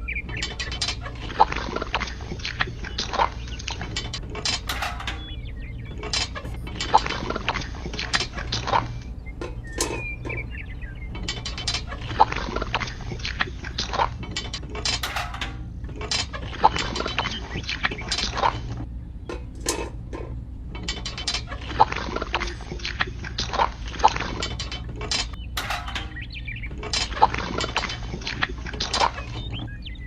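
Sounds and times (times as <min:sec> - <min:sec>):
mechanism clicking and rattling: 0:00.0 - 0:29.7
steady low hum: 0:00.0 - 0:30.0.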